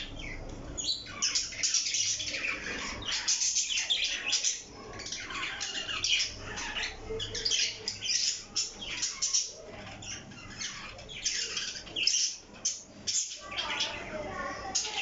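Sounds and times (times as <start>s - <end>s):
parrot squawking: 0.0s - 15.0s.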